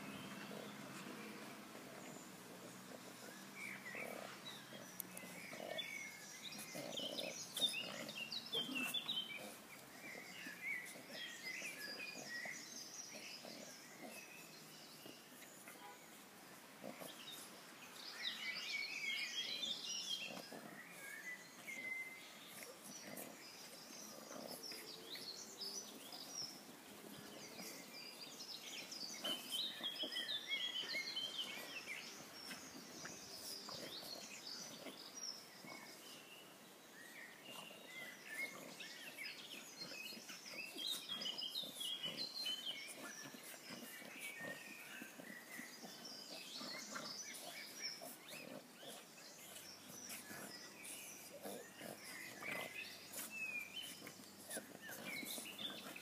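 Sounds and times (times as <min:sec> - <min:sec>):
dogs grunting and growling: 0:00.0 - 0:56.0.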